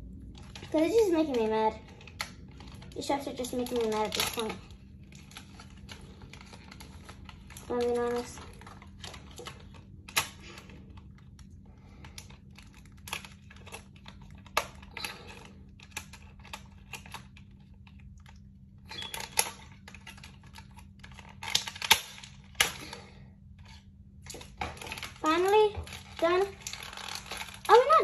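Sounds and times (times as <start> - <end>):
steady low hum: 0.0 - 28.0
plastic packaging clicks and handling: 0.2 - 28.0.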